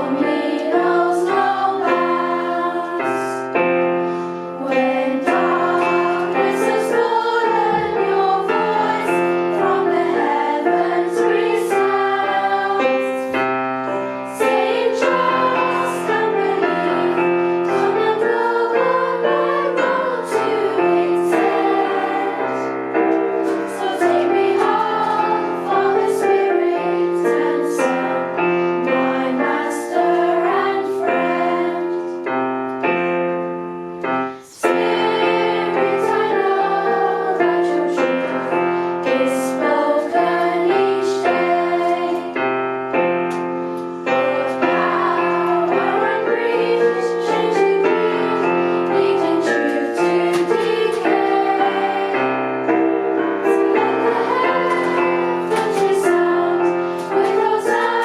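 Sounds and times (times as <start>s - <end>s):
voices singing a hymn: 0.0s - 33.1s, 34.0s - 42.6s, 43.3s - 58.0s
piano accompaniment: 0.0s - 58.0s.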